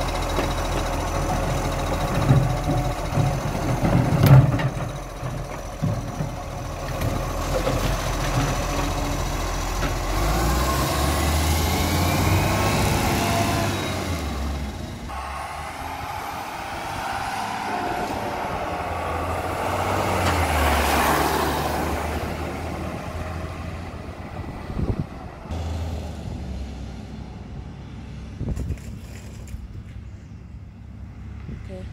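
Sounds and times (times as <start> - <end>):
garbage truck engine revving: 0.0 - 24.7, 25.4 - 27.4.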